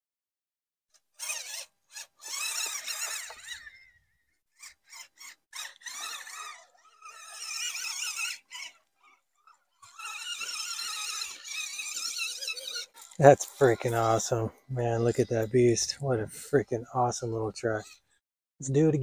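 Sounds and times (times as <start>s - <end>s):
electric motor whining: 1.2s - 18.2s.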